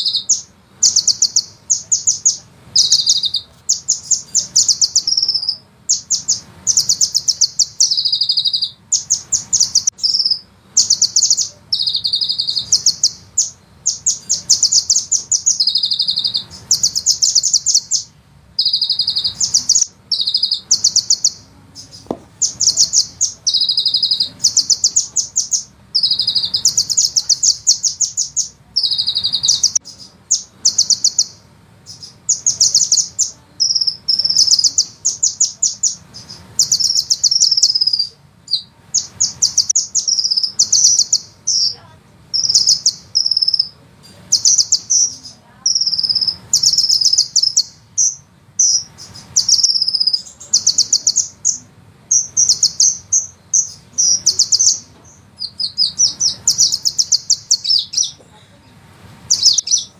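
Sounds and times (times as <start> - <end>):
bird singing high trills: 0.0 - 58.2, 59.3 - 59.9.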